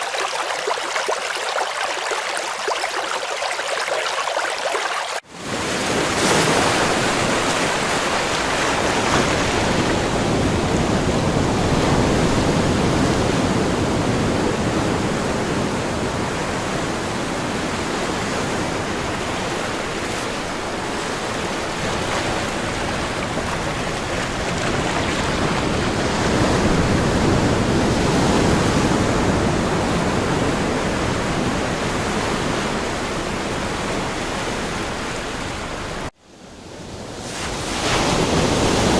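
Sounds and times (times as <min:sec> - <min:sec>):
water rushing: 0:00.0 - 0:36.1.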